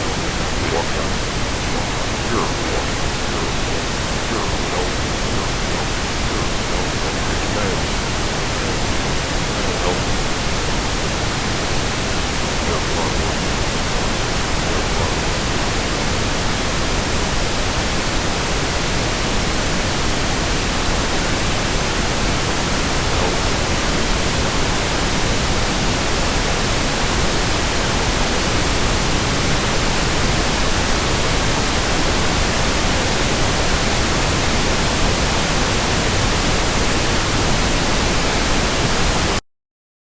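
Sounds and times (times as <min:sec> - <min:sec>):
loud static hiss: 0:00.0 - 0:39.4.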